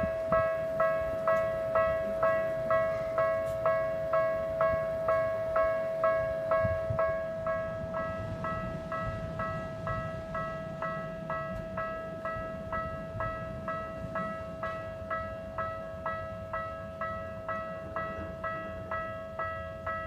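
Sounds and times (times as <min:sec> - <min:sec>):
railroad crossing alarm ringing: 0:00.0 - 0:20.0.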